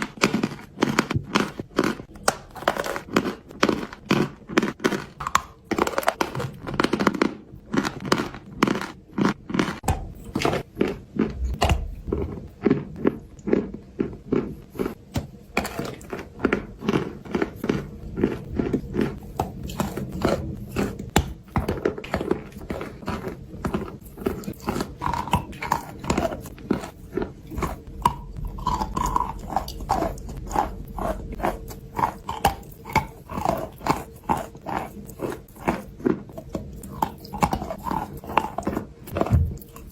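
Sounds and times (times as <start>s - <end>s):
person chewing crunchy clay: 0.0s - 39.9s.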